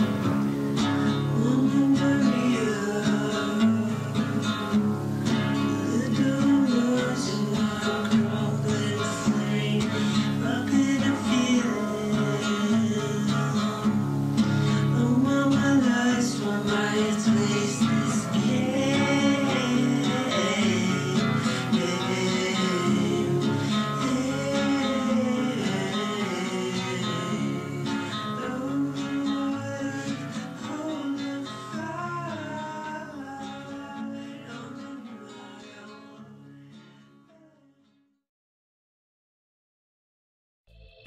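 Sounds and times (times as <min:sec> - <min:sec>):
person singing: 0:00.0 - 0:37.7
plucked acoustic guitar: 0:00.0 - 0:38.0.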